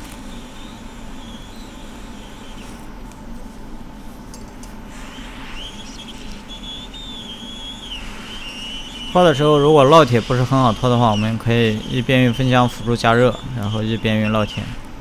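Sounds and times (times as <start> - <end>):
faint high whine: 0.0 - 15.0
hot air blower hissing: 0.0 - 15.0.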